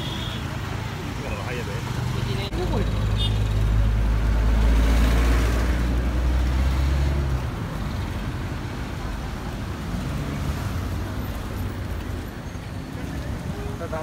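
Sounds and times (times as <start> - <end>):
hum of passing traffic: 0.0 - 14.0.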